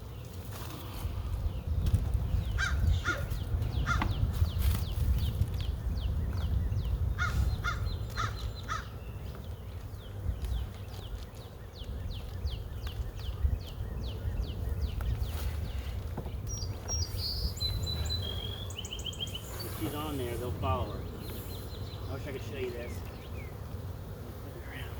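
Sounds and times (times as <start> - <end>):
small bird chirping: 0.0 - 23.7.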